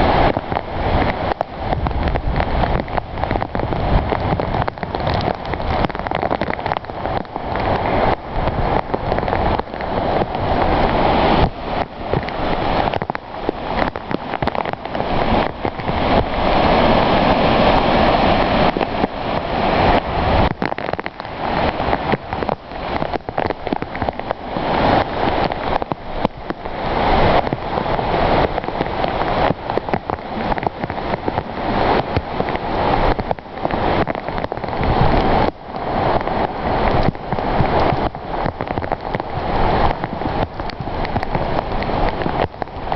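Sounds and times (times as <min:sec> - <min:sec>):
rain on a moving car: 0:00.0 - 0:42.9
wet road rushing: 0:00.0 - 0:42.9.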